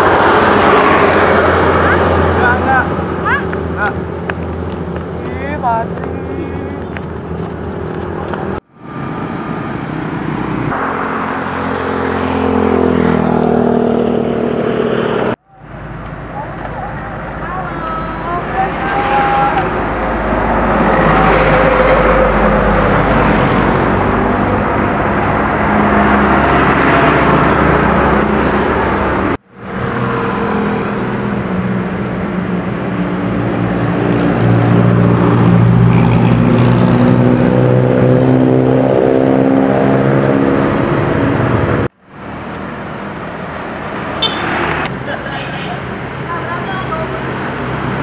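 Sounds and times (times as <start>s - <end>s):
engine drone rising in pitch: 0.0s - 16.4s, 18.2s - 45.0s
vehicles passing: 0.0s - 48.0s.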